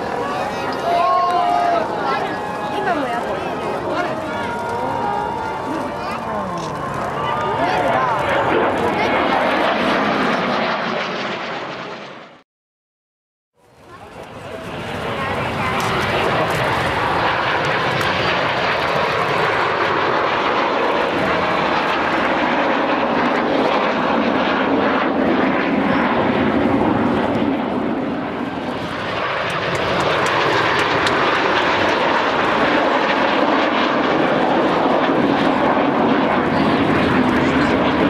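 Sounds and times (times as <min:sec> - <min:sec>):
jet aircraft flying over: 0:00.0 - 0:12.4, 0:13.6 - 0:38.0.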